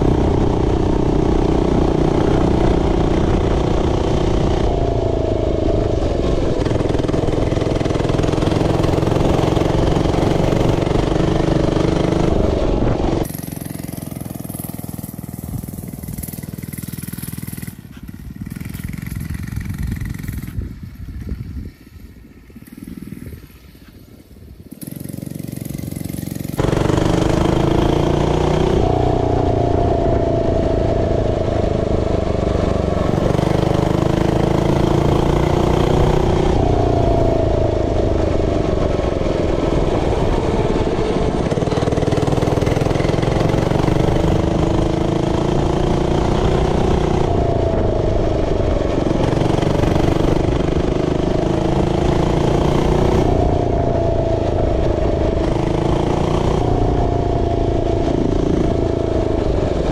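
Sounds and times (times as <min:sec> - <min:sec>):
mini bike engine revving: 0:00.0 - 0:59.9.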